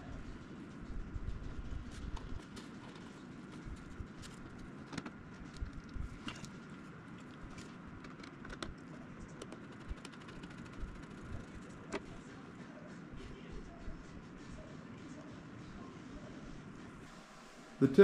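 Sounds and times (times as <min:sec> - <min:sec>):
steady faint hum: 0:00.0 - 0:18.0.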